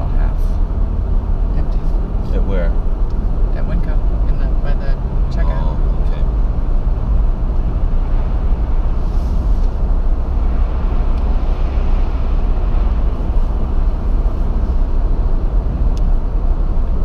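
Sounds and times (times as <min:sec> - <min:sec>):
car interior engine and road noise: 0:00.0 - 0:17.0.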